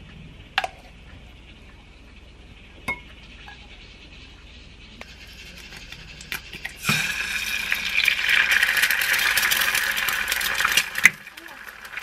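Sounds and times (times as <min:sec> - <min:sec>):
egg sizzling in hot oil: 0:01.2 - 0:12.0.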